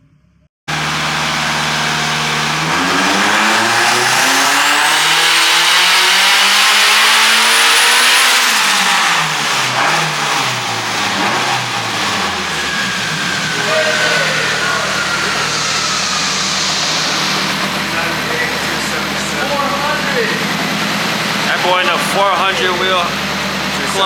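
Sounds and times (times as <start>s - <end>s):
car engine revving: 0.7s - 24.0s
turbo whine: 0.7s - 24.0s.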